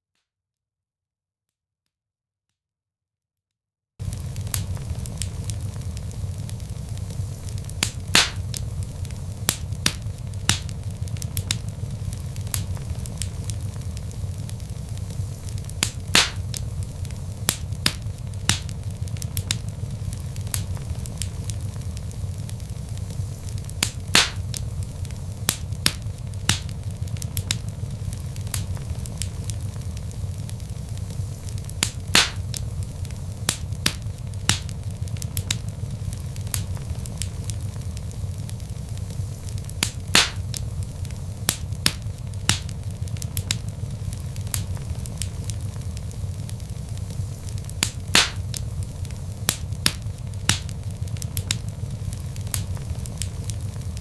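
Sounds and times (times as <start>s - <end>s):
logs crackling and popping in fire: 4.0s - 54.0s
low rumble of flames: 4.0s - 54.0s.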